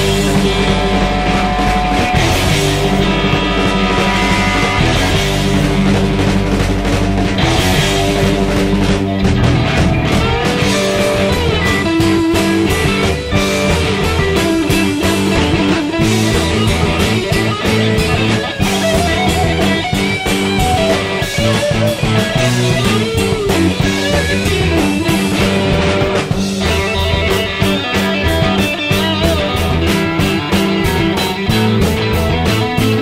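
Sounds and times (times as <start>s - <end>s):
lead guitar with bent notes: 0.0s - 33.0s
rock band playing live: 0.0s - 33.0s.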